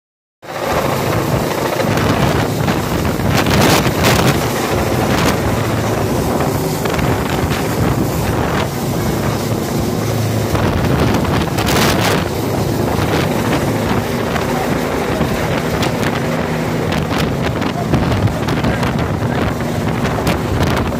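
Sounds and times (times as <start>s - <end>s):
helicopter rotor and engine drone: 0.4s - 20.9s
wind buffeting microphone: 0.5s - 20.9s.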